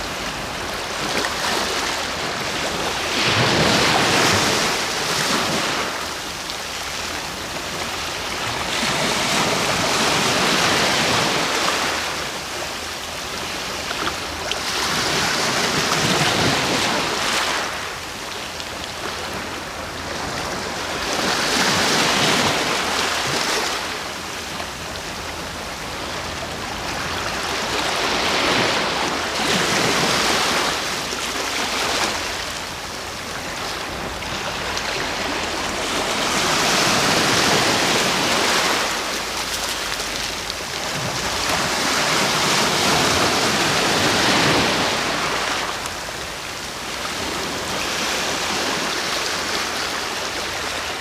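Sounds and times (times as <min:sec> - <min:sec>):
ocean waves breaking on shore: 0:00.0 - 0:51.0.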